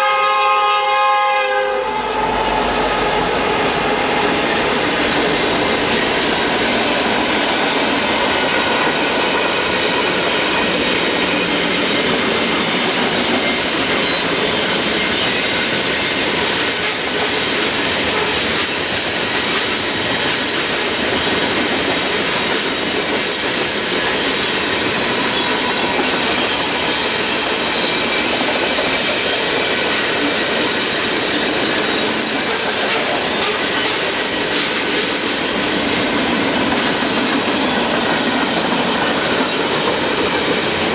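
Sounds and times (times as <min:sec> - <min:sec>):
train wheels rumbling on rails: 0:00.0 - 0:40.9
clickety-clack over rail joints: 0:01.6 - 0:40.9.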